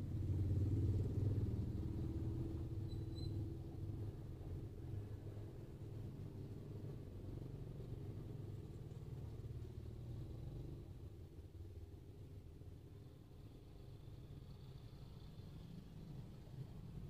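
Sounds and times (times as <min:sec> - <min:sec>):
motor scooters passing faintly: 0:00.0 - 0:17.0.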